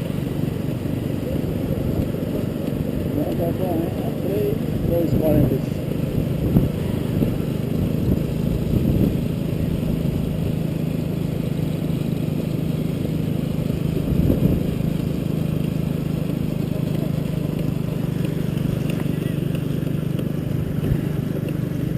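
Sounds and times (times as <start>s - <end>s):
low rumble of road noise: 0.0s - 21.9s
vehicle engine running: 0.0s - 21.9s.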